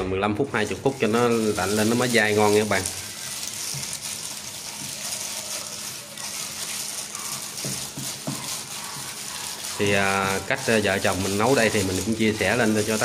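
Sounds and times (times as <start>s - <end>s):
gloved hand kneading fish paste: 0.5s - 13.0s.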